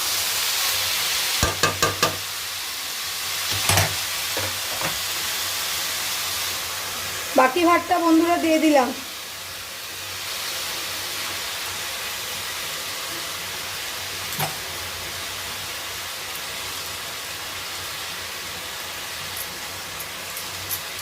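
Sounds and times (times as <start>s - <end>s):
rice sizzling in hot oil: 0.0s - 21.0s.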